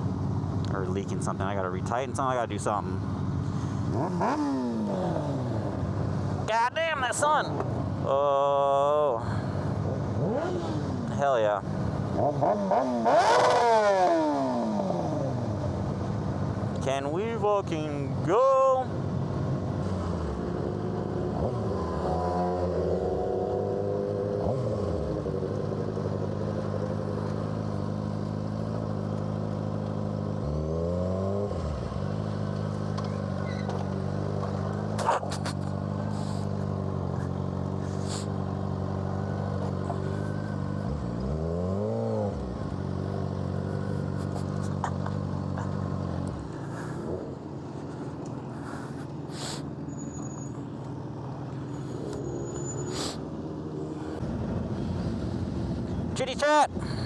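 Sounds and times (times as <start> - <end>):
motorcycle engine revving: 3.0 - 6.5, 9.3 - 16.9, 19.7 - 55.9.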